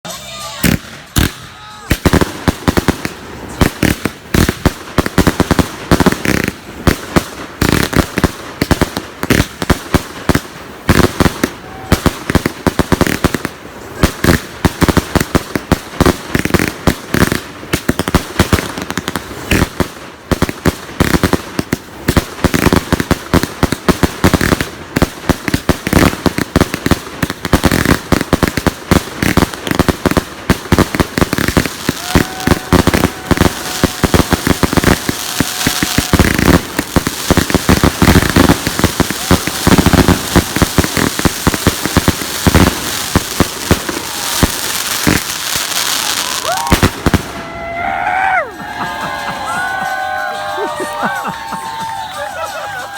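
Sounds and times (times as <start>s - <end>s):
fireworks cracking: 0.0s - 52.9s.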